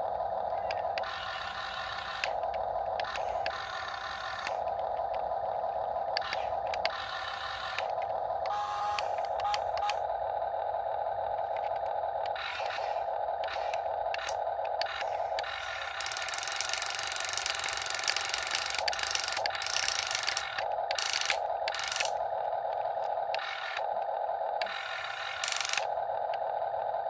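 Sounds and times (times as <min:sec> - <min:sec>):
electric gear motors whining: 0:00.0 - 0:27.0
gearing clicks: 0:00.4 - 0:10.0, 0:11.3 - 0:26.5.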